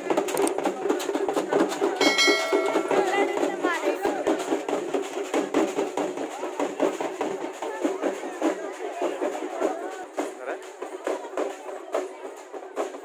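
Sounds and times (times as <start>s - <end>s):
crowd voices: 0.0s - 13.0s
drums beaten fast: 0.0s - 13.0s.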